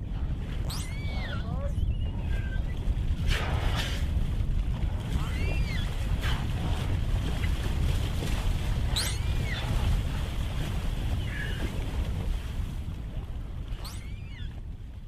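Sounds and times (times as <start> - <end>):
sea rushing: 0.0 - 15.0
wind buffeting microphone: 0.0 - 15.0.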